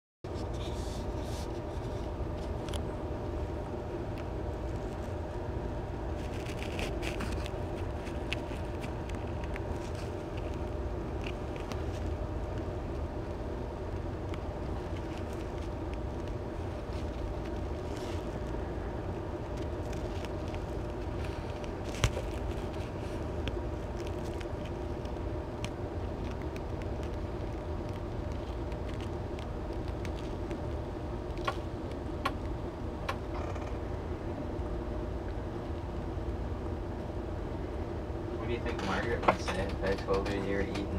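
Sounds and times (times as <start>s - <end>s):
steady mechanical hum: 0.3s - 40.9s.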